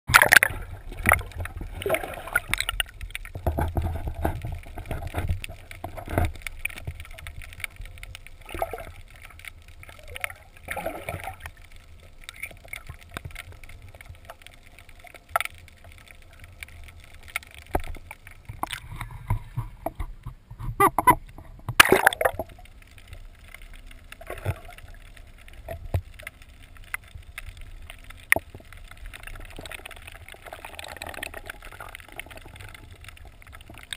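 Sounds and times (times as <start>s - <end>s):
muffled underwater water gurgling: 0.1s - 33.9s.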